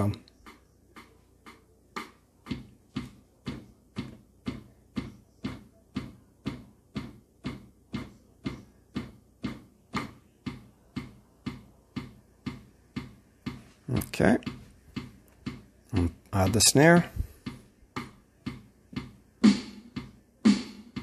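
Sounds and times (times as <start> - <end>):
click track ticking: 0.0 - 19.2.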